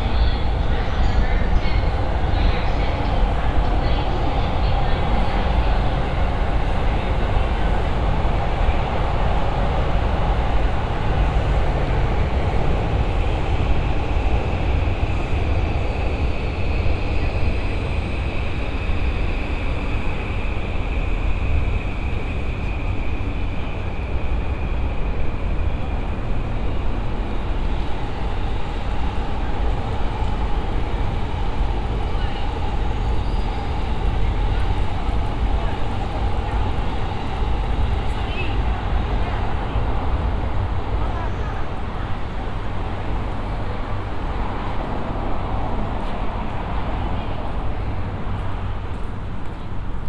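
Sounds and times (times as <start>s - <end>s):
city street traffic: 0.0s - 50.0s
train rumbling past: 0.0s - 50.0s.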